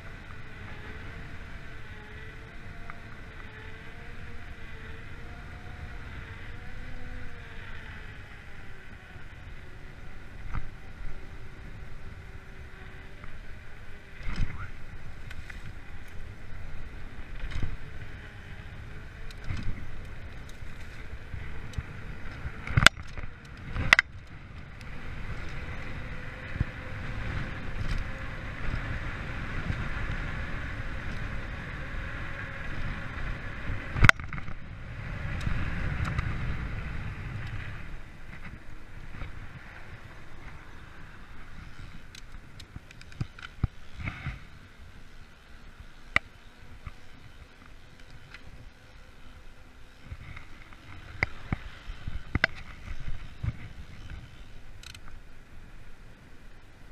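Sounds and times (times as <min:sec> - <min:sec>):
bike tyres rumbling on trail: 0:00.0 - 0:56.9.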